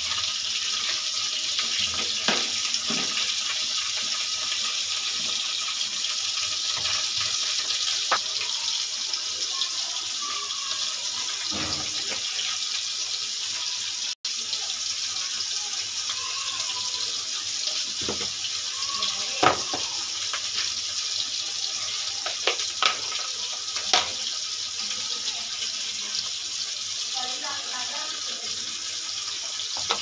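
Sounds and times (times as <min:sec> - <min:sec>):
oil sizzling: 0:00.0 - 0:30.0.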